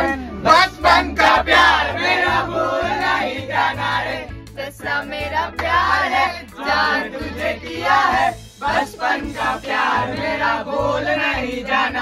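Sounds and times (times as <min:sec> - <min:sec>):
group of people singing: 0:00.0 - 0:12.0
music: 0:00.0 - 0:12.0.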